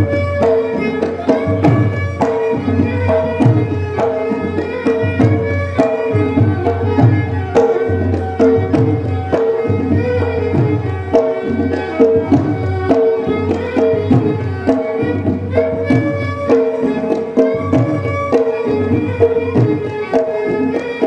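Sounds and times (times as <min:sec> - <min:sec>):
steady drum beat: 0:00.0 - 0:20.7.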